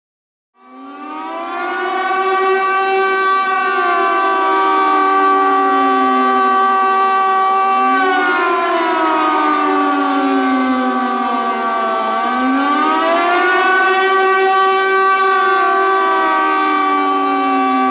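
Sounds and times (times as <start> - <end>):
warning siren sounding: 0.6 - 17.9.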